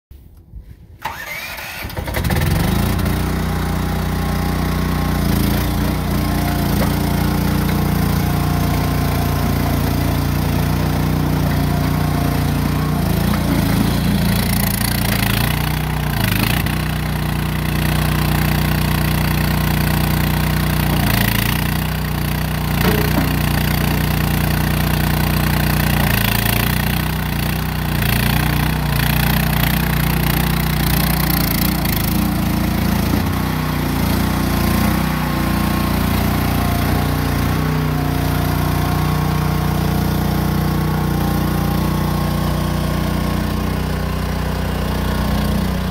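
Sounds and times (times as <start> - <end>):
small engine running: 1.0 - 45.9.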